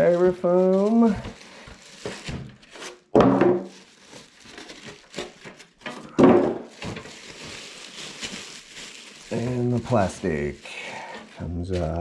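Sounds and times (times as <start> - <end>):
styrofoam squeaking and scraping: 0.0 - 3.1, 3.7 - 5.9, 6.6 - 12.0
plastic crinkling: 0.0 - 12.0.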